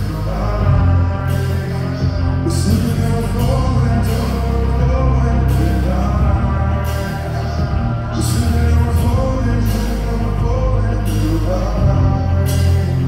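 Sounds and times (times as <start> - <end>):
live heavy metal band: 0.0 - 13.0.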